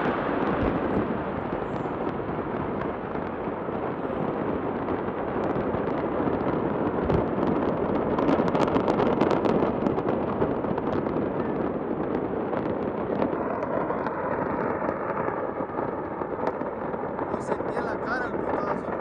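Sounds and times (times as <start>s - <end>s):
fire roaring: 0.0s - 19.0s
fireworks cracking and popping: 0.0s - 19.0s.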